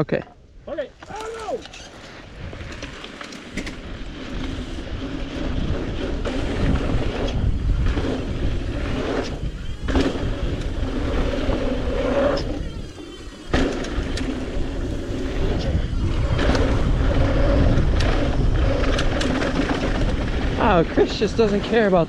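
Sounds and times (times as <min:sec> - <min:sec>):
wind buffeting microphone: 0:00.5 - 0:22.0.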